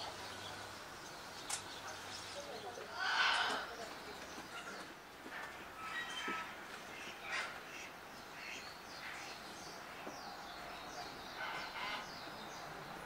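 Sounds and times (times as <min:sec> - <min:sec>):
small birds chirping: 0:00.0 - 0:05.8, 0:06.8 - 0:13.0.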